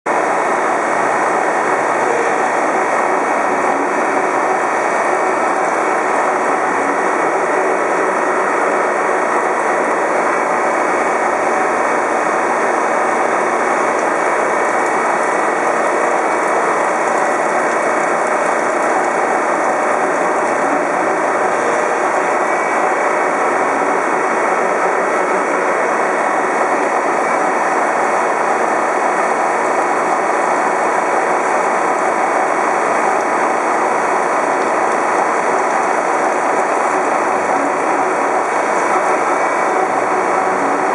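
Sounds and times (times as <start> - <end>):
cutting oil flooding: 0.1 - 40.9
gear cutting machine running: 0.1 - 40.9.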